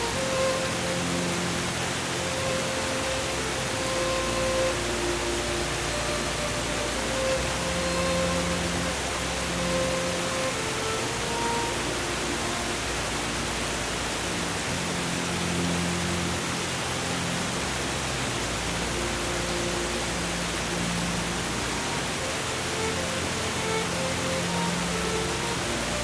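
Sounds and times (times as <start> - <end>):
soft held musical tones: 0.0 - 26.0
steady rushing hiss: 0.0 - 26.0.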